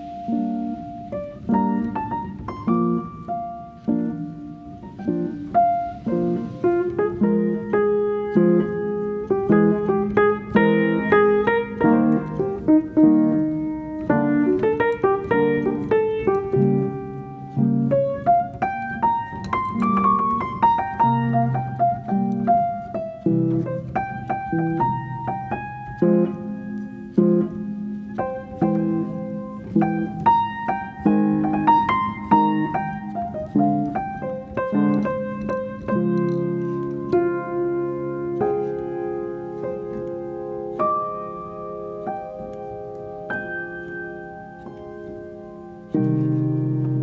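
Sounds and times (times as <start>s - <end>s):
piano music: 0.0s - 47.0s.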